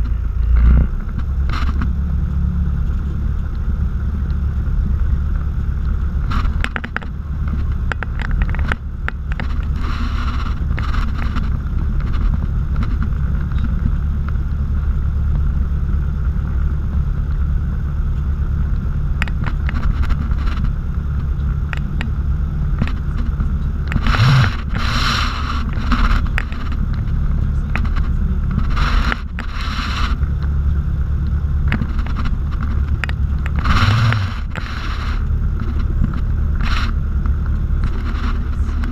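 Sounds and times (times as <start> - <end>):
aircraft piston engine drone: 0.0 - 38.9.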